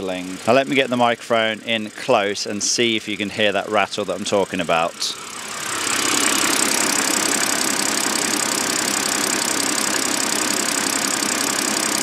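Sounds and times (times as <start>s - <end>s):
car engine idling: 0.0s - 12.0s
engine rattle: 0.0s - 12.0s.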